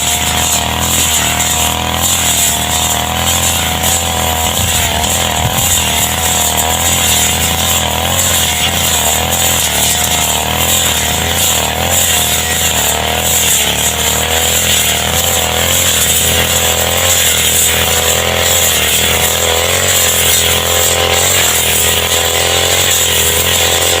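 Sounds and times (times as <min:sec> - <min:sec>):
brush cutter engine running: 0:00.0 - 0:24.0.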